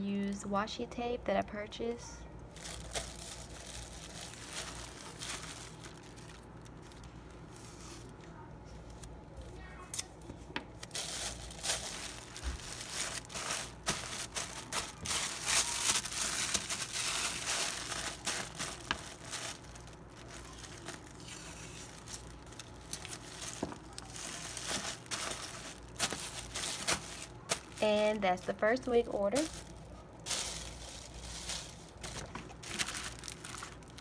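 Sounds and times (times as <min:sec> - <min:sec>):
wrapping paper rustling and crinkling: 0:02.4 - 0:09.2, 0:10.7 - 0:34.0.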